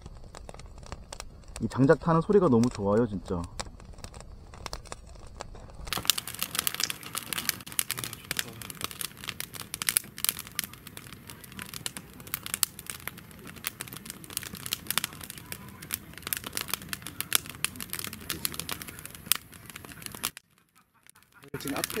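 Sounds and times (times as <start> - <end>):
firewood crackling and popping: 0.0 - 22.0
low rustle: 0.0 - 22.0.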